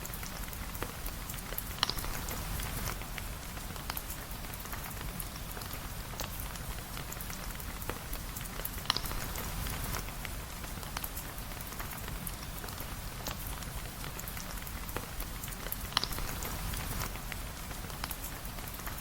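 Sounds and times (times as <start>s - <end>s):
sharp clicks of raindrops: 0.0s - 19.0s
steady rain hiss: 0.0s - 19.0s.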